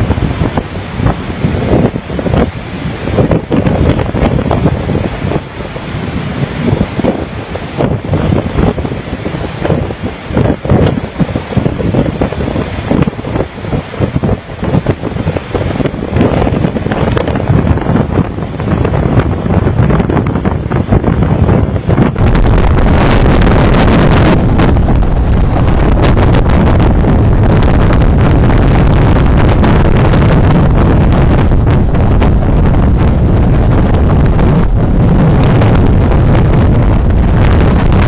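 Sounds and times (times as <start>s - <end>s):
storm wind on microphone: 0.0s - 38.0s
waves breaking: 0.0s - 38.0s.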